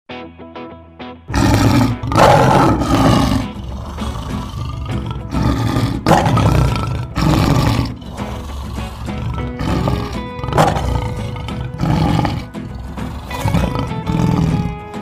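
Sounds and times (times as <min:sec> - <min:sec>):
background music: 0:00.1 - 0:15.0
lion roaring: 0:01.3 - 0:15.0.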